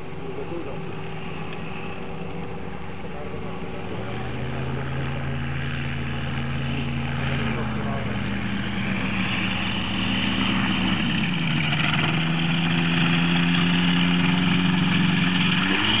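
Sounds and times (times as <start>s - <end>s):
microlight engine and propeller: 0.0s - 16.0s.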